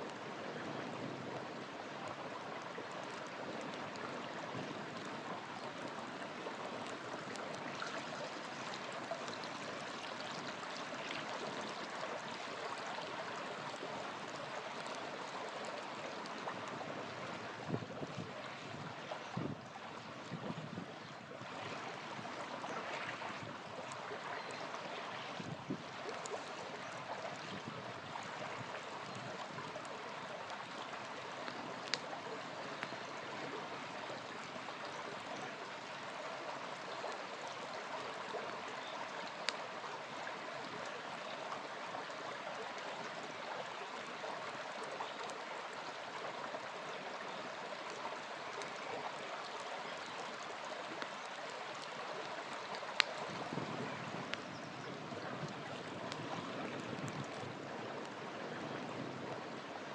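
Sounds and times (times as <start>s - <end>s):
campfire crackling: 0.0s - 20.3s, 21.4s - 54.5s, 55.3s - 58.2s
river flowing: 0.0s - 59.9s.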